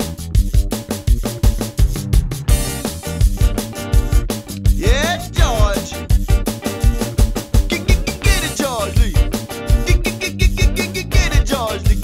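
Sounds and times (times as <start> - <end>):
driving drum beat: 0.0 - 12.0
zydeco instrumental music: 0.0 - 12.0.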